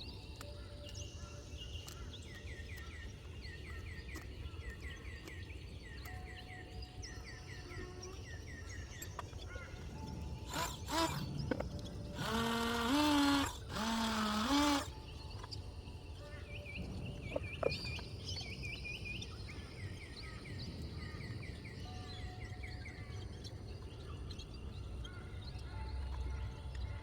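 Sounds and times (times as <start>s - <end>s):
steady outdoor background noise: 0.0s - 27.0s.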